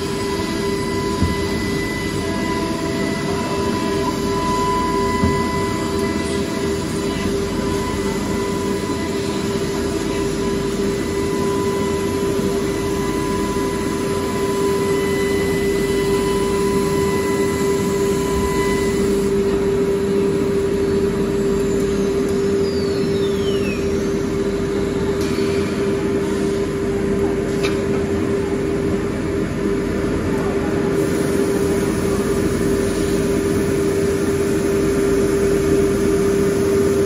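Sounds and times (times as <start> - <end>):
cnc router and dust extraction humming: 0.0 - 37.0.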